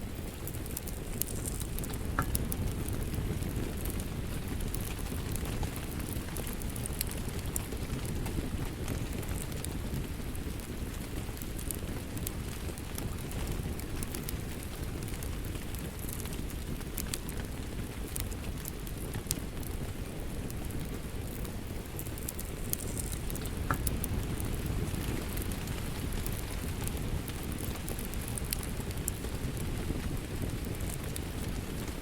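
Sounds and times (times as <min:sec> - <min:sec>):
log fire crackling and popping: 0:00.0 - 0:32.0.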